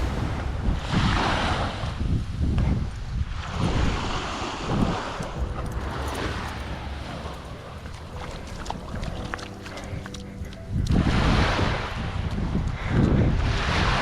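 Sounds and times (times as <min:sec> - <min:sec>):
waves breaking on beach: 0:00.0 - 0:02.5, 0:03.2 - 0:12.2, 0:12.8 - 0:14.0
wind buffeting microphone: 0:00.0 - 0:14.0.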